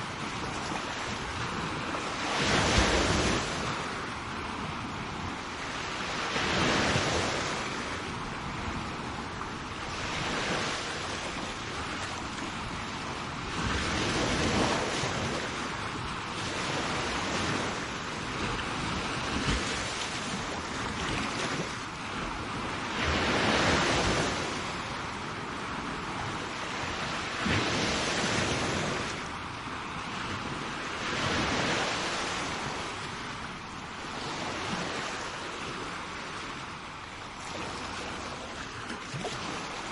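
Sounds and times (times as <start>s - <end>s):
sea waves breaking on shore: 0.0s - 39.9s
wind rumble on microphone: 0.0s - 39.9s.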